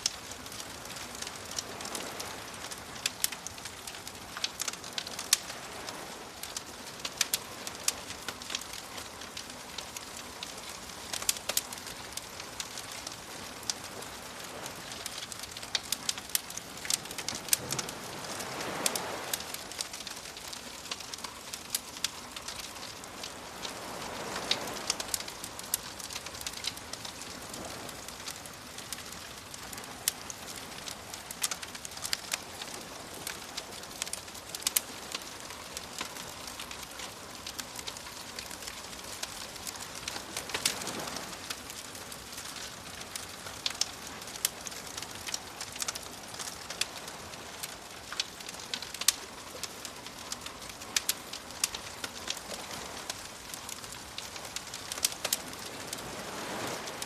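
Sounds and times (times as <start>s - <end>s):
waves washing: 0.0s - 48.7s, 50.4s - 57.0s
campfire crackling and popping: 0.0s - 57.0s.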